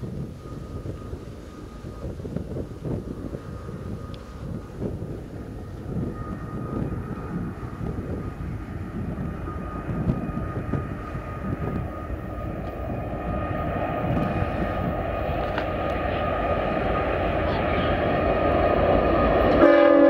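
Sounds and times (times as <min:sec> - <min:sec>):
diesel locomotive engine rumble: 0:00.0 - 0:20.0
faint high whine: 0:00.0 - 0:20.0.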